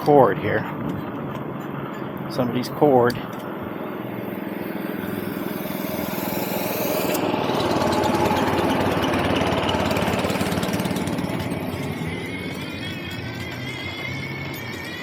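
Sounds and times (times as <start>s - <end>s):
small engine running: 1.7s - 15.0s.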